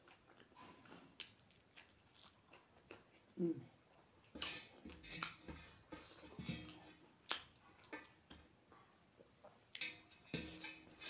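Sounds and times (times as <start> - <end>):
person chewing: 0.0 - 9.9.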